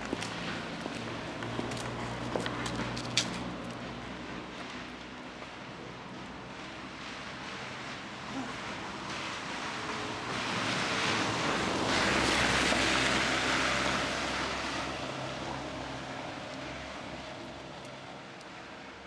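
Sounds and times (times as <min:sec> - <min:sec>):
car passing: 0:00.0 - 0:19.0.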